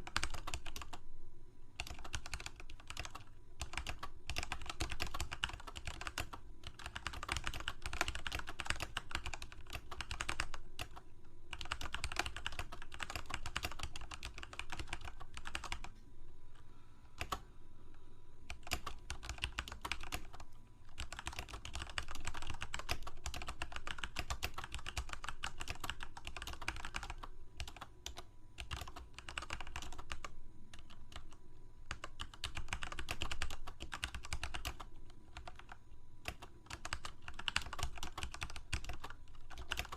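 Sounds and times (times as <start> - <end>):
typing on computer keyboard: 0.0 - 1.0, 1.8 - 15.9, 17.2 - 17.4, 18.5 - 39.9.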